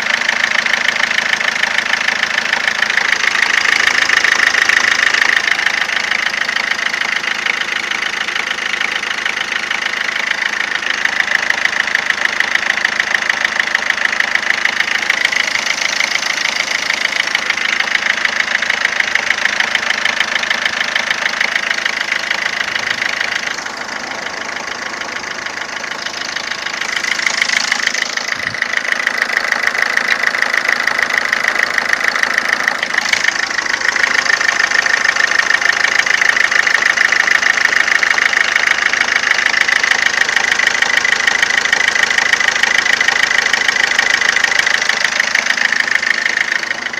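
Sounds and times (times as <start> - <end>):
diesel engine running: 0.0 - 46.9
engine ticking: 0.0 - 46.9.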